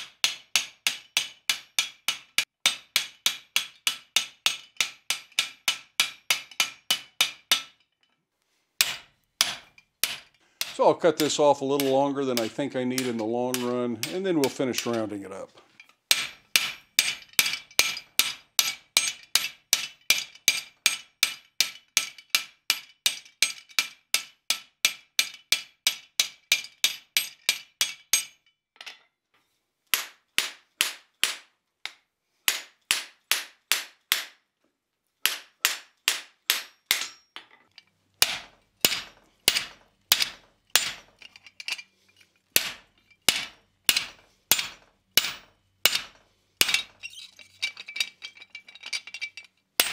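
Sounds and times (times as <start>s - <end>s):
hammer striking hot steel: 0.0s - 7.8s, 8.8s - 15.1s, 16.1s - 28.4s, 29.9s - 31.5s, 32.5s - 34.4s, 35.2s - 41.2s, 42.6s - 47.0s.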